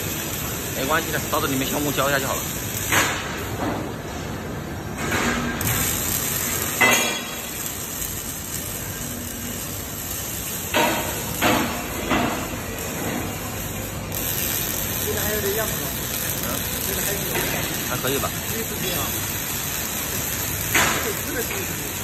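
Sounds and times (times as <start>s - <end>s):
welding arc hissing: 0.0s - 22.0s.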